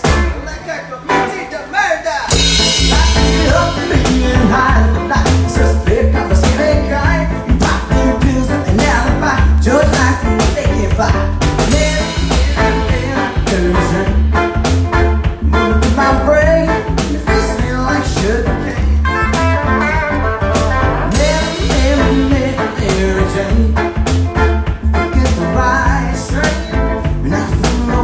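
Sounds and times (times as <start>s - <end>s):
bass drum and snare beat: 0.0s - 0.5s, 2.3s - 28.0s
electric guitar strumming: 0.0s - 28.0s
man singing: 0.0s - 28.0s.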